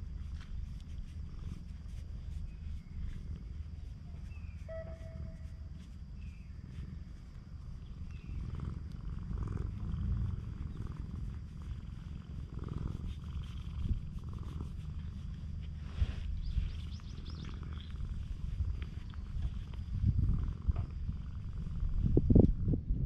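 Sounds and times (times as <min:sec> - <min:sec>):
cat purring: 0:00.0 - 0:22.9.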